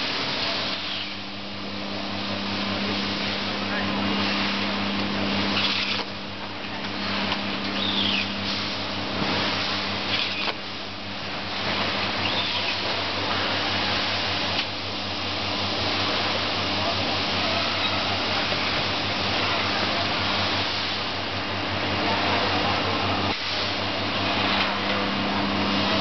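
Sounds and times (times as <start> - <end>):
constant hum: 0.0 - 26.0.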